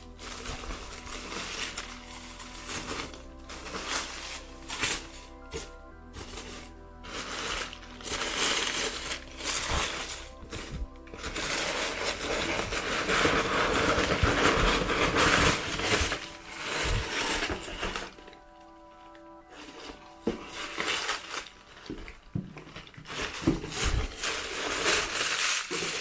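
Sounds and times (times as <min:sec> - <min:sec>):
soft background music: 0:00.0 - 0:26.0
tissue paper crinkling and rustling: 0:00.0 - 0:26.0.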